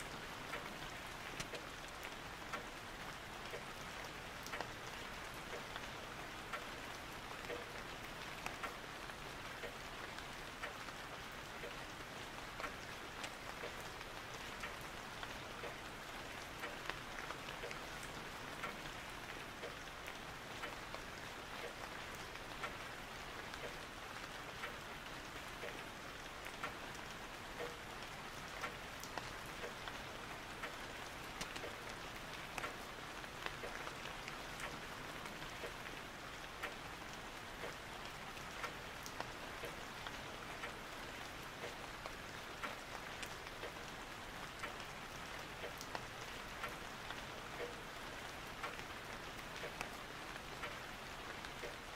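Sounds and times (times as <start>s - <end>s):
raindrops ticking: 0.0s - 51.9s
steady rain: 0.0s - 51.9s.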